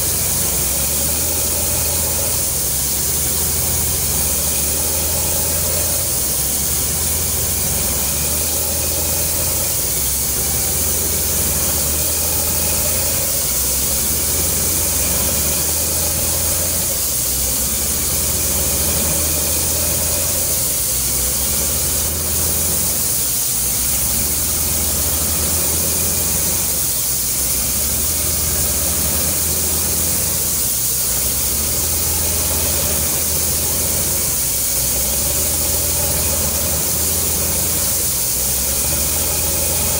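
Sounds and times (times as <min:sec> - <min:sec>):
constant hiss: 0:00.0 - 0:39.9
low engine drone: 0:00.0 - 0:39.9.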